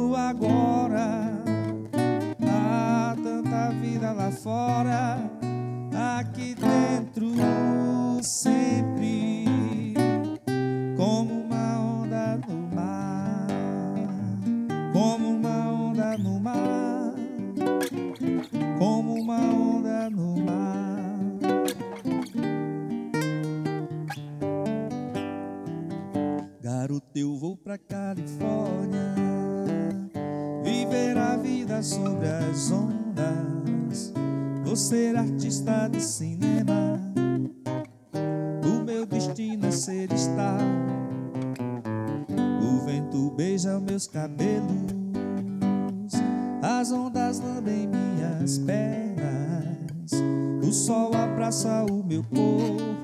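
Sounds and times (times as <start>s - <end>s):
classical guitar strummed and picked: 0.0s - 53.0s.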